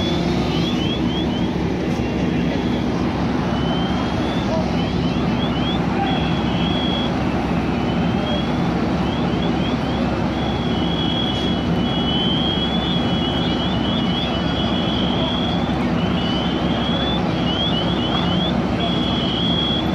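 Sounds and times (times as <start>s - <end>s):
fire truck engines running: 0.0s - 19.9s.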